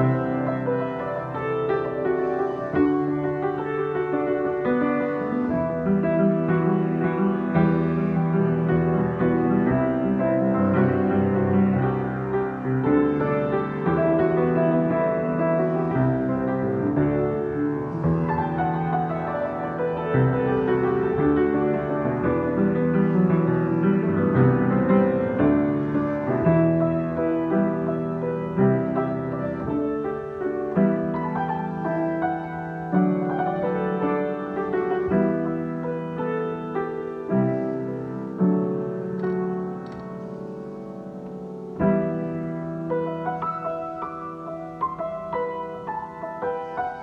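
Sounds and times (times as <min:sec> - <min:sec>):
solo piano improvisation: 0:00.0 - 0:47.0.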